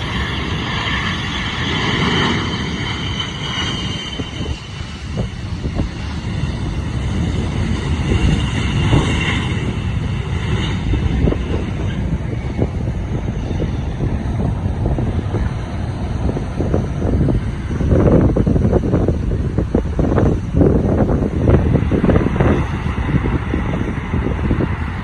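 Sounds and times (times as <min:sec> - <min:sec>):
high engine whine: 0:00.0 - 0:25.0
jet engines rumbling with crackle: 0:00.0 - 0:25.0
wind buffeting microphone: 0:00.0 - 0:25.0.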